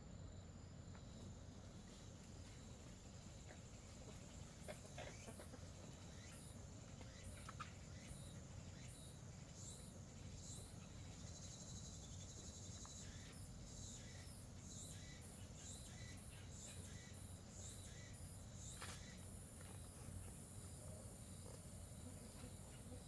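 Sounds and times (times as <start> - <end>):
high insect chirp: 0.0 - 23.0
high insect drone: 0.0 - 23.0.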